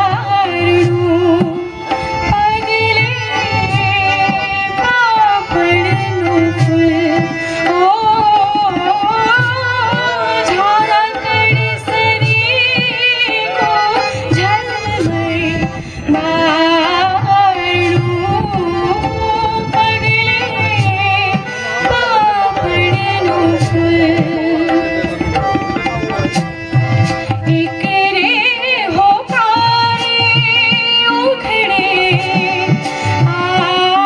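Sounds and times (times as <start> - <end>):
woman singing: 0.0 - 24.9, 27.3 - 34.0
harmonium: 0.0 - 34.0
tabla strokes: 0.0 - 34.0.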